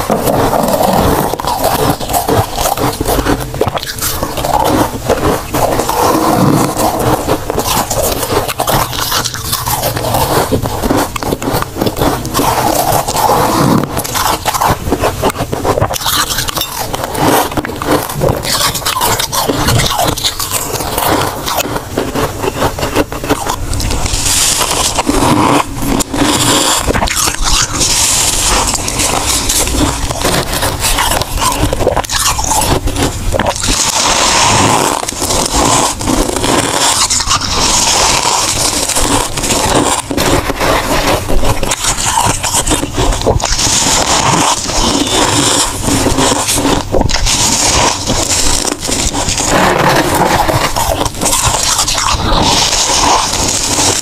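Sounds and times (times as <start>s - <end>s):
crisp crunching of frost: 0.0s - 54.0s
frost scraping: 0.0s - 54.0s.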